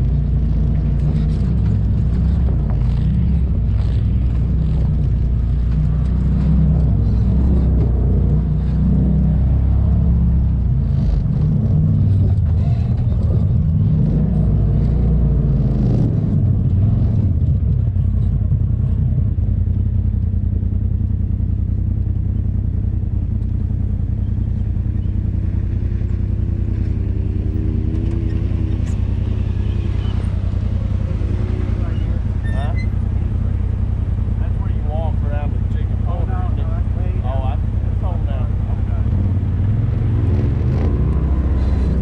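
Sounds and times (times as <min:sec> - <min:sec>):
second vehicle engine approaching: 0:00.0 - 0:42.0
utility vehicle engine running: 0:00.0 - 0:42.0.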